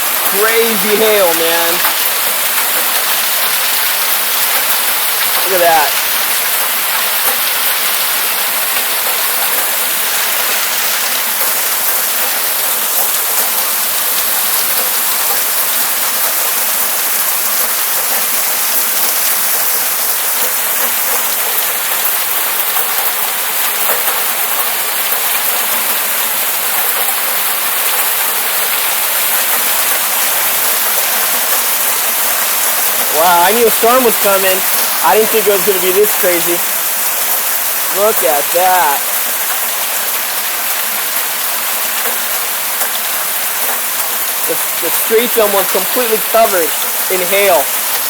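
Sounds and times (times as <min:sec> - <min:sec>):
heavy hail pelting down: 0:00.0 - 0:48.0.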